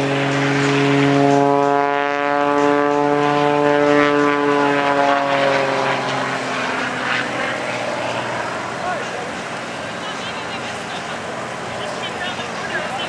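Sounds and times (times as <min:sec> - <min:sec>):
propeller plane flying overhead: 0:00.0 - 0:13.0.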